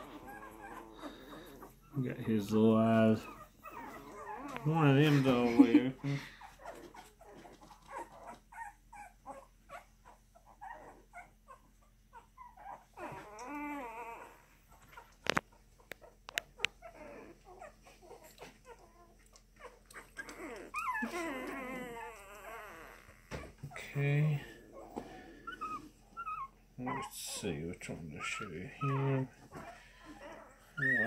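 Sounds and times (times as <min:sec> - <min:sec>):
puppy wavering cry: 0:00.0 - 0:02.0, 0:02.6 - 0:05.8, 0:06.5 - 0:15.2, 0:16.0 - 0:27.1, 0:28.2 - 0:31.0
puppy squeaking and whimpering: 0:00.0 - 0:31.0.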